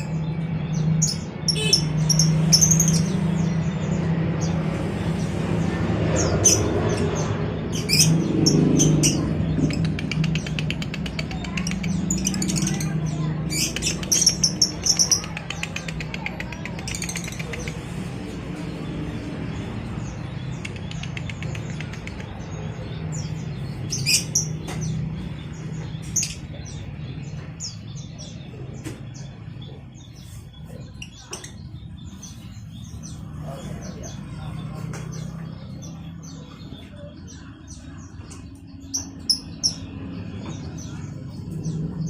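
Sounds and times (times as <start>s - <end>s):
songbirds chirping and trilling: 0.0s - 42.0s.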